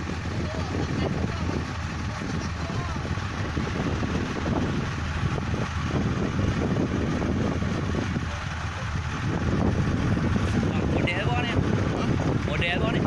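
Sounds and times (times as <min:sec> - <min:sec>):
diesel engine low drone: 0:00.0 - 0:13.0.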